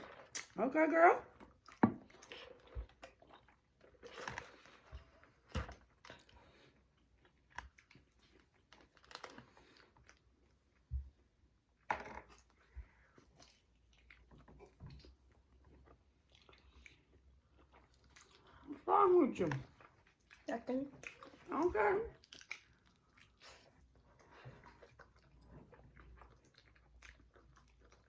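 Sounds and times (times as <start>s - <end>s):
person chewing and crunching: 1.3s - 18.9s, 19.6s - 28.0s.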